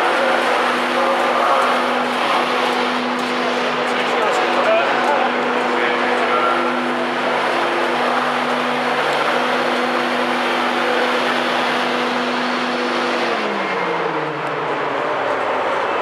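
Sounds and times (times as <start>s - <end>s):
locomotive machinery hum: 0.0s - 16.0s
loud rushing noise: 0.0s - 16.0s.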